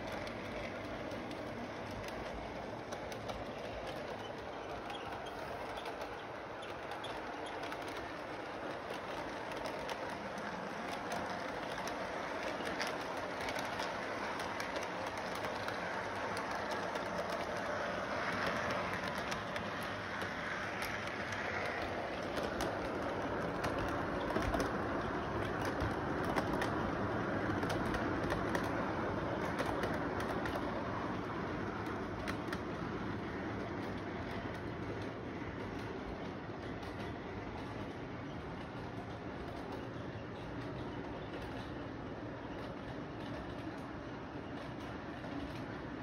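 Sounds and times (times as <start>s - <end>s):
toy train whirring and rattling: 0.0s - 46.0s.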